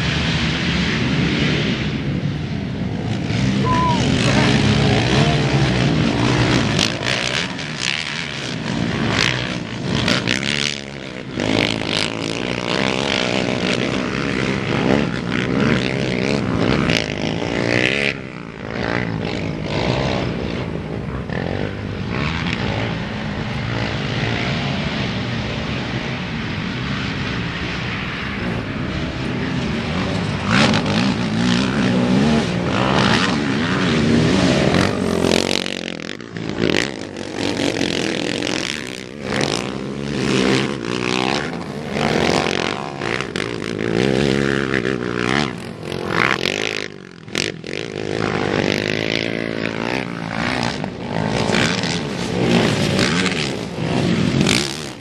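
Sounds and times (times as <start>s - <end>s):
racing quad engines revving: 0.0s - 55.0s.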